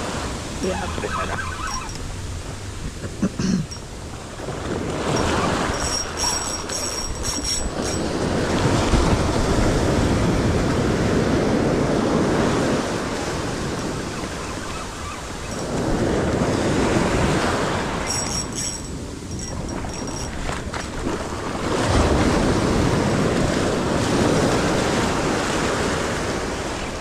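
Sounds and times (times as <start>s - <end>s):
ocean surf breaking on sand: 0.0s - 5.8s, 8.0s - 18.1s, 20.3s - 27.0s.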